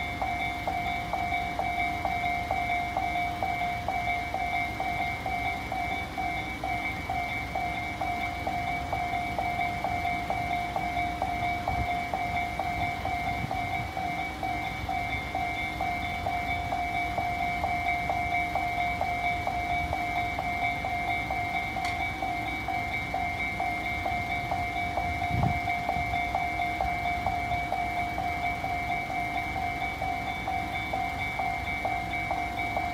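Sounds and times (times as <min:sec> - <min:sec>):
railway crossing bell ringing: 0:00.0 - 0:32.9.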